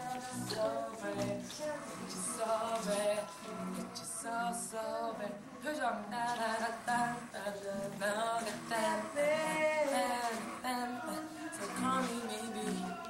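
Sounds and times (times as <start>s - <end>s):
boys singing a cappella: 0.0s - 13.0s.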